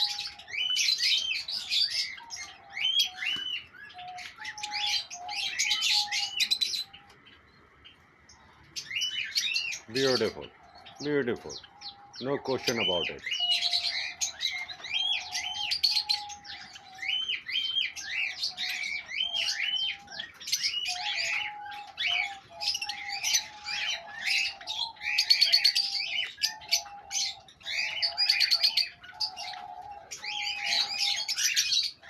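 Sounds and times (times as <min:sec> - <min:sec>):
lovebirds chirping and chattering: 0:00.0 - 0:32.0.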